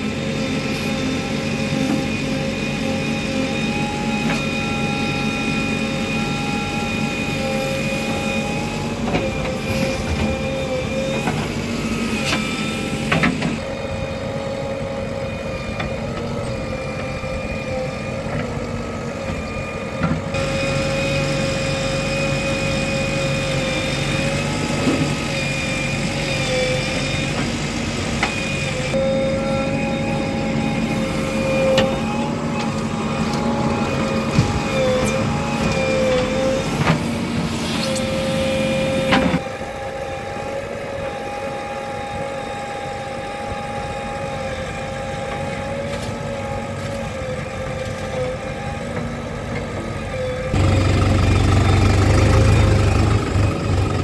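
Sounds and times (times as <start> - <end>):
diesel engine under load: 0.0 - 54.0
hydraulic whine: 0.0 - 54.0.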